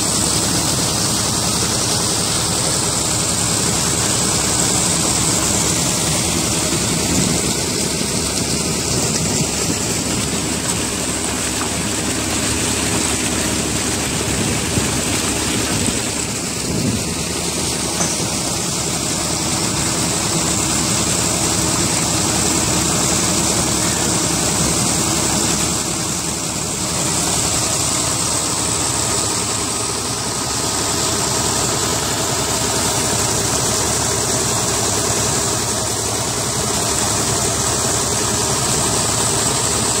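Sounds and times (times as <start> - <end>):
tractor diesel engine running: 0.0 - 40.0
water gushing into basin: 0.0 - 40.0.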